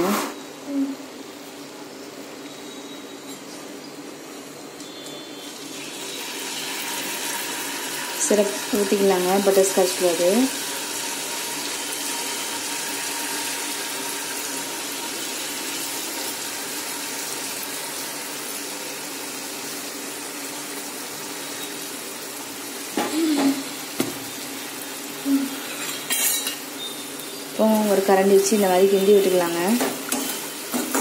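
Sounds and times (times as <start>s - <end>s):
syrup sizzling: 5.3s - 31.0s.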